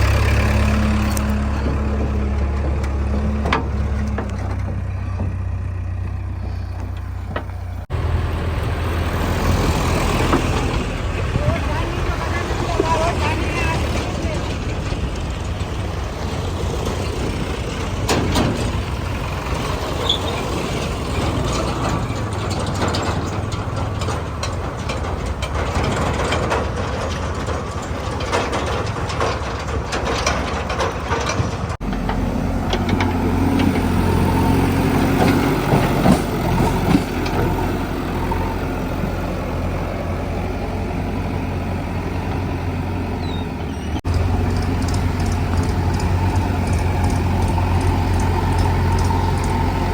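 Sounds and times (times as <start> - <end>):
machine clanks and knocks: 0.0 - 8.0, 9.4 - 40.4, 43.8 - 49.9
diesel engine running: 0.0 - 49.9.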